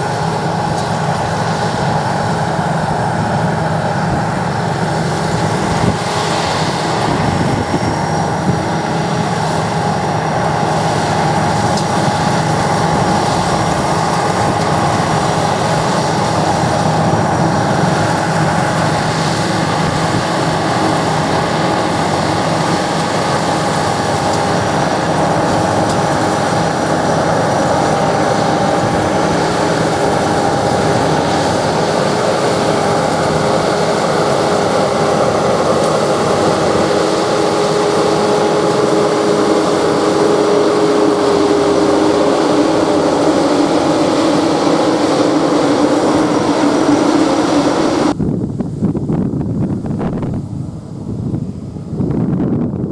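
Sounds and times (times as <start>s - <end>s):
harvester machine drone: 0.0s - 52.9s
high machine whine: 0.0s - 52.9s.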